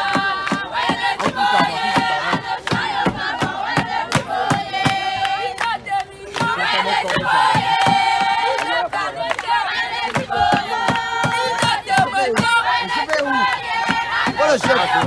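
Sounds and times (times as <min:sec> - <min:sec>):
steady hand clapping: 0:00.0 - 0:15.0.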